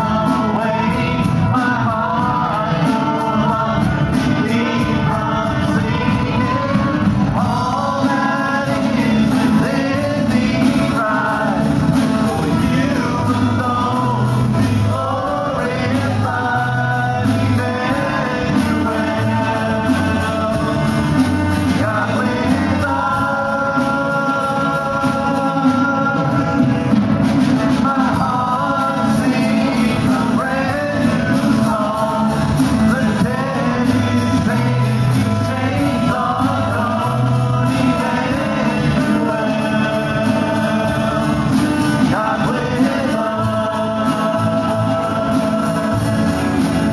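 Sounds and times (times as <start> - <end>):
drums: 0.0 - 46.9
electric bass: 0.0 - 46.9
strummed acoustic guitar: 0.0 - 46.9
voices singing: 0.0 - 46.9.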